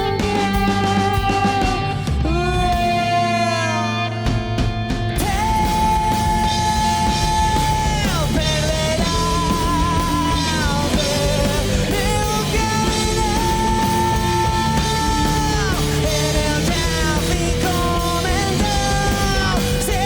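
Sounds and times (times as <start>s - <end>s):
person singing long notes: 0.0s - 20.0s
rock band playing: 0.0s - 20.0s.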